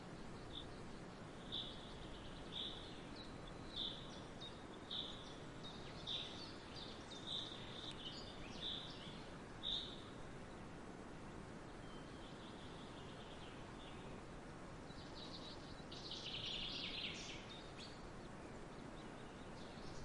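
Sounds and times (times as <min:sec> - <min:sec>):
forest ambience hiss: 0:00.0 - 0:20.0.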